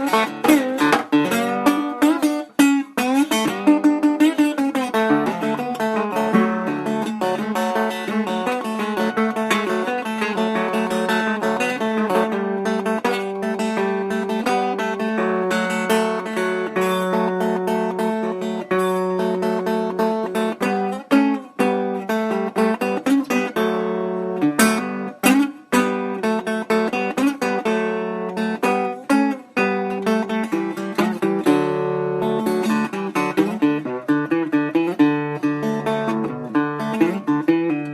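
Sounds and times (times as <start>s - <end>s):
slide guitar music: 0.0s - 37.9s.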